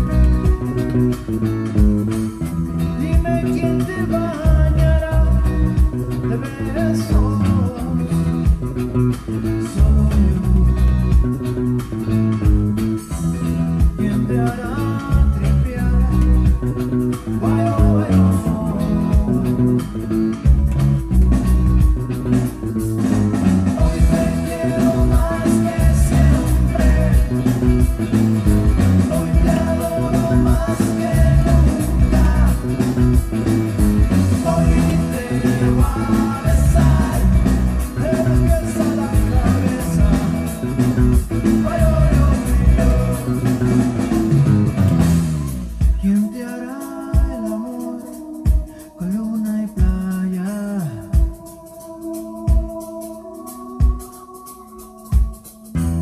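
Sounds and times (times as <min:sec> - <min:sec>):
electric bass guitar: 0:00.0 - 0:54.2, 0:54.9 - 0:56.0
rock song with vocals: 0:00.0 - 0:56.0.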